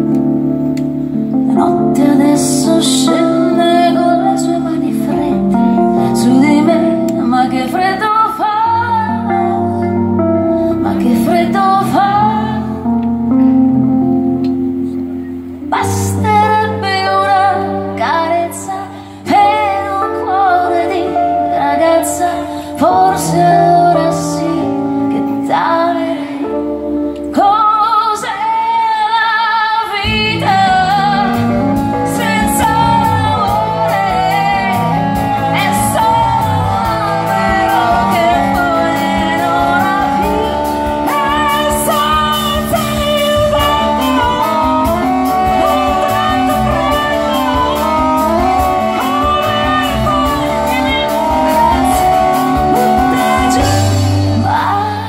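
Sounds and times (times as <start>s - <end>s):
live band music: 0.0s - 55.0s
woman singing: 1.5s - 13.1s, 15.6s - 55.0s.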